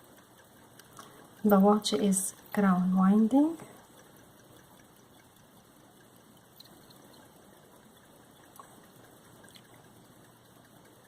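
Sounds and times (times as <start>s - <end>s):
tiny clicks: 0.0s - 11.0s.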